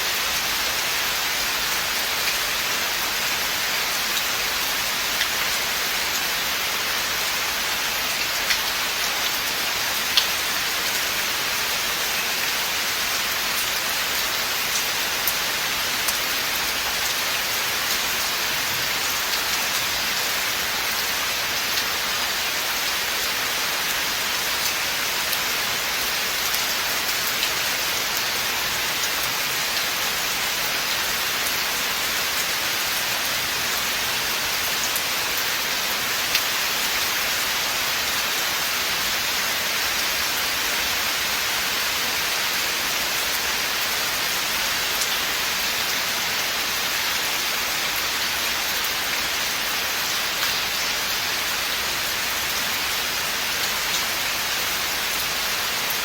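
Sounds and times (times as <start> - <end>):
rain falling on forest: 0.0 - 56.0.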